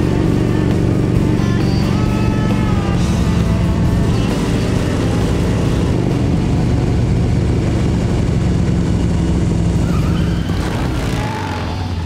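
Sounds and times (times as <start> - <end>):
motorcycle engines cruising: 0.0 - 12.0.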